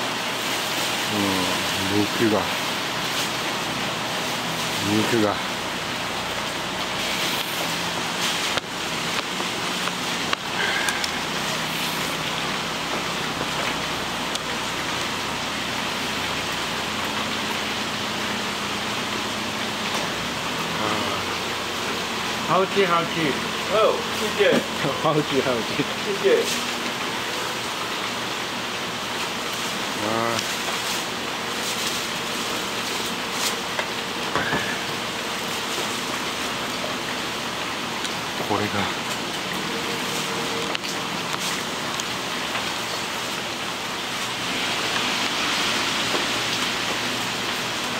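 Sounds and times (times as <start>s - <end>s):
steady rushing hiss: 0.0s - 47.9s.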